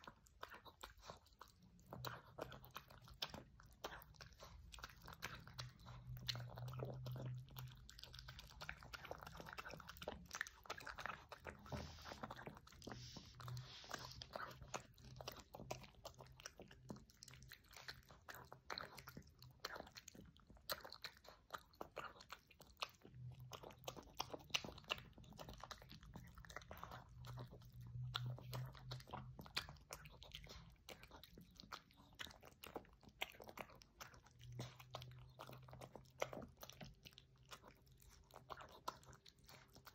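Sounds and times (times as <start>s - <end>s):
dog chewing and smacking: 0.0s - 39.9s.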